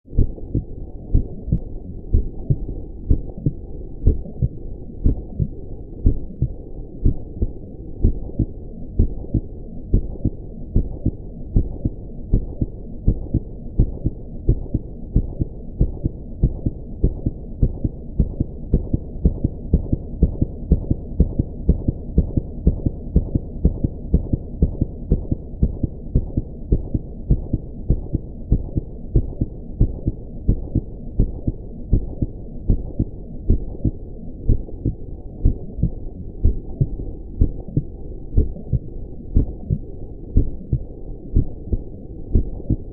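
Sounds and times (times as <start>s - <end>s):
steady low hum: 0.0s - 42.9s
heartbeat thumps: 0.1s - 42.9s.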